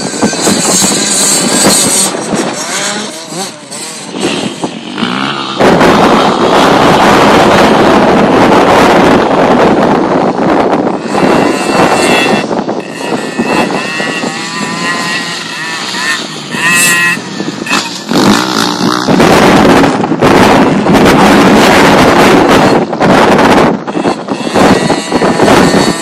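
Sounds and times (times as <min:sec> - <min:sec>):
dirt bike engine revving: 0:00.0 - 0:26.0
wind noise on microphone: 0:00.0 - 0:26.0.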